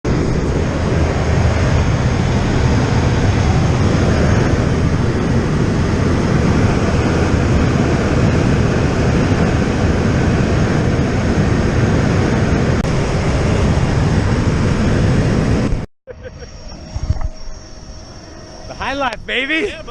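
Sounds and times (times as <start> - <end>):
air rushing around aircraft: 0.0 - 19.9
turboprop aircraft engine in flight: 0.0 - 19.9.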